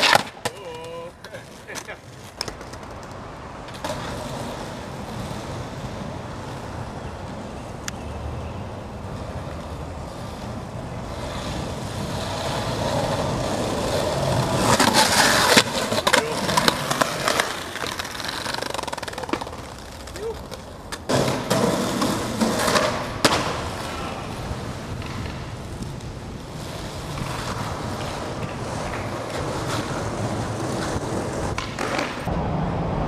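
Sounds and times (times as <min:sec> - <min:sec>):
skateboard clacking: 0:00.0 - 0:08.0, 0:09.2 - 0:32.3
skateboard wheels rolling on concrete: 0:00.0 - 0:33.0.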